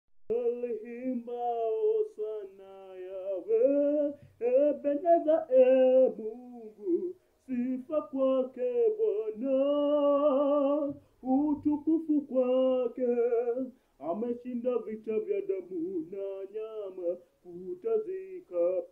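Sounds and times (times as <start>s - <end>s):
man singing unaccompanied: 0.3s - 18.9s.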